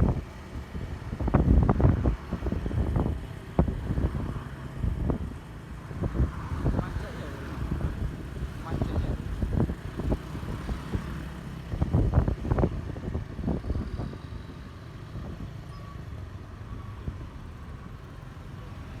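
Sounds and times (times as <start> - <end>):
road vehicle rumble: 0.0 - 19.0.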